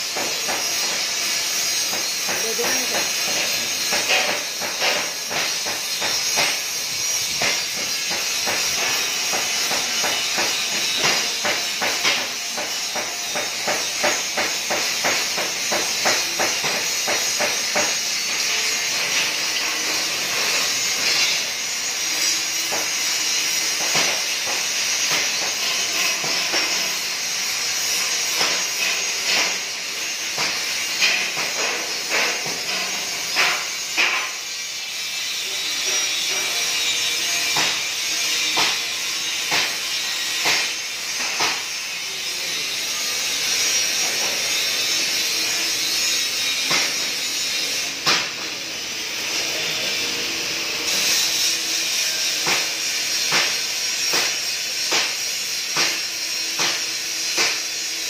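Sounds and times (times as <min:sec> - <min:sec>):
welding arc hissing and crackling: 0:00.0 - 0:58.0.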